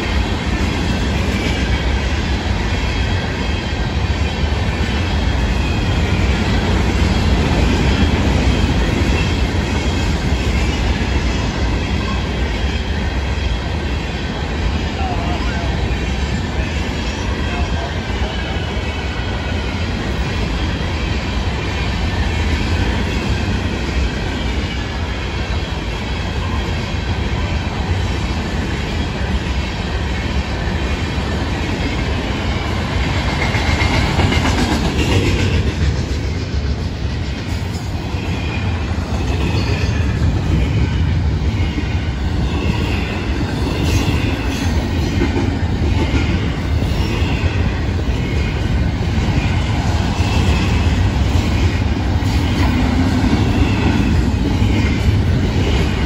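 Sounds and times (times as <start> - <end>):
freight train rolling past: 0.0 - 56.0
steel wheels clattering on rail: 0.0 - 56.0.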